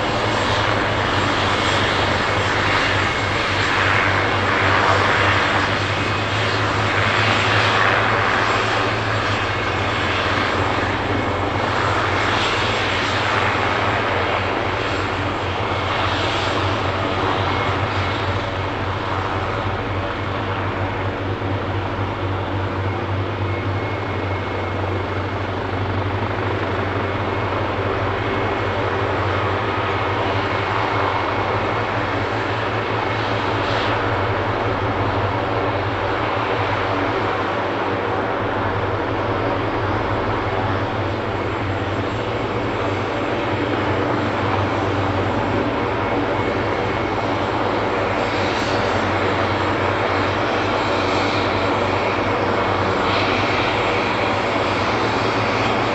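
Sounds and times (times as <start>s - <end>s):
helicopter engine whine: 0.0s - 55.9s
low rotor hum: 0.0s - 55.9s.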